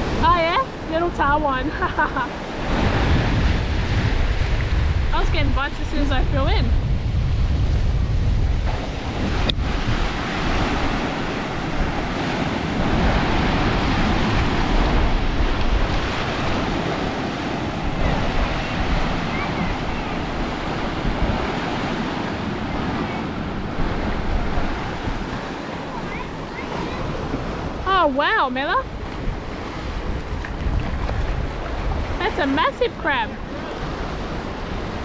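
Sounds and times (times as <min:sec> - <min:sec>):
surf washing against rocks: 0:00.0 - 0:35.0
wind buffeting microphone: 0:00.0 - 0:35.0.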